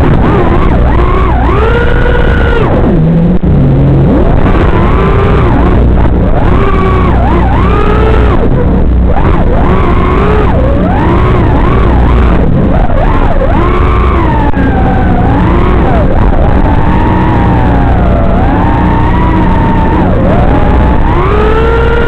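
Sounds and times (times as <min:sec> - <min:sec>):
drone motors and propellers whining: 0:00.0 - 0:22.0
steady low hum: 0:00.0 - 0:22.0.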